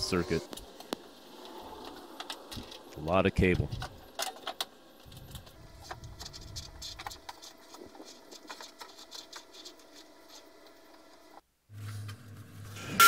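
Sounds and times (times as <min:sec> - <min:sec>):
cable clicking and rubbing: 0:00.5 - 0:11.1.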